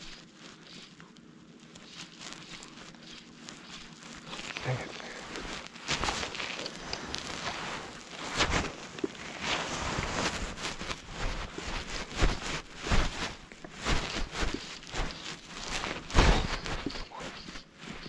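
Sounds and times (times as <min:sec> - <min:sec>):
hands handling fly line: 0:00.0 - 0:18.0
synthetic jacket rustling: 0:01.6 - 0:18.0.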